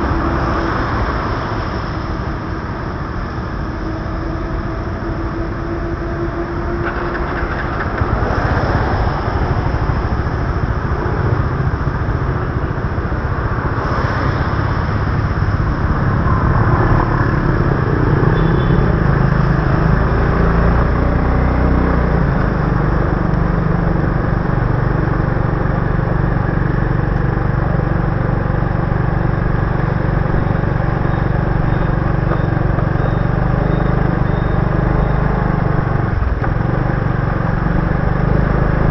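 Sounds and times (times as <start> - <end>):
road and traffic noise: 0.0 - 38.9.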